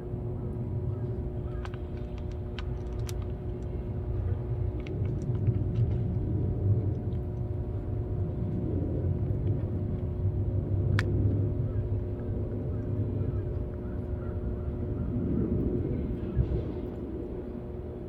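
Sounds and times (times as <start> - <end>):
constant hum: 0.0 - 18.0
low rumble: 0.0 - 18.0.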